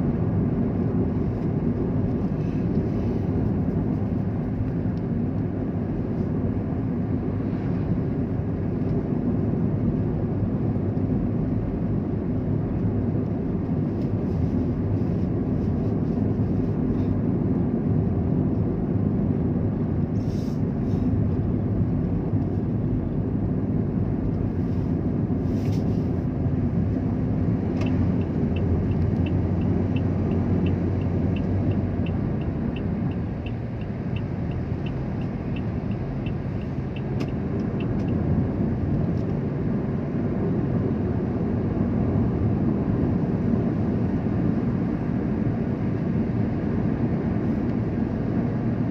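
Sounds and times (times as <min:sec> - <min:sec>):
vehicle engine and tyre rumble: 0:00.0 - 0:48.9.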